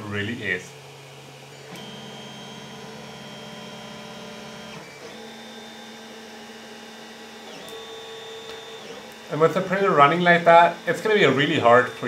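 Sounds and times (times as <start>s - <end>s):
cooling fans whirring: 0.0s - 12.0s
stepper motors whining: 0.2s - 12.0s.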